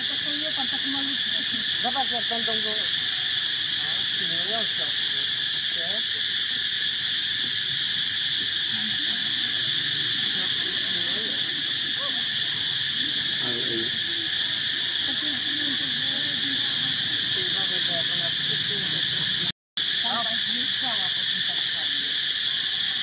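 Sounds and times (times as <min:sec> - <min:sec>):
faint low wavering calls: 0:00.0 - 0:23.0
insects droning: 0:00.0 - 0:23.0.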